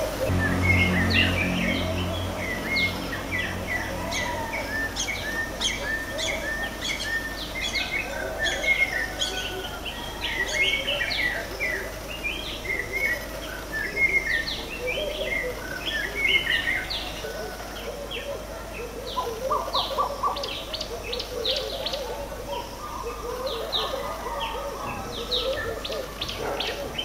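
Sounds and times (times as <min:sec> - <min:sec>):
birds chirping and whistling: 0:00.0 - 0:17.2, 0:17.8 - 0:27.0.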